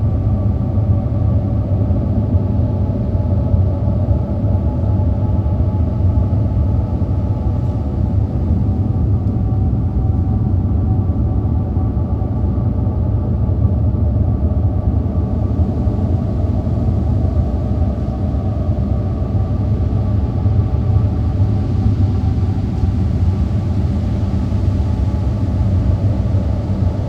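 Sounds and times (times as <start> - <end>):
low rumbling drone: 0.0 - 27.0.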